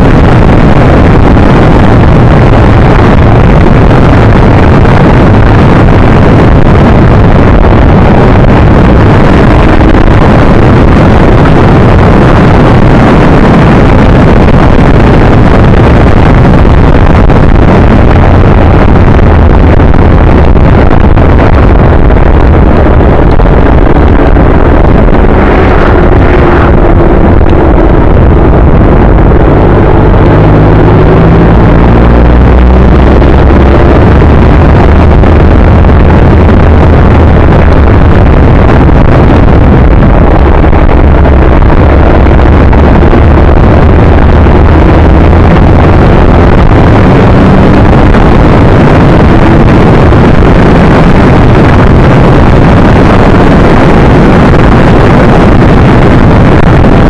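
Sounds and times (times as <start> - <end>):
wind roaring on microphone: 0.0 - 57.0.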